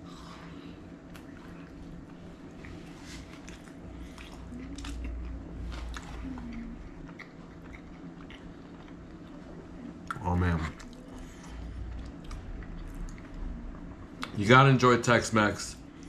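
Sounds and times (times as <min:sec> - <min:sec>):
person chewing food: 0:00.1 - 0:14.4.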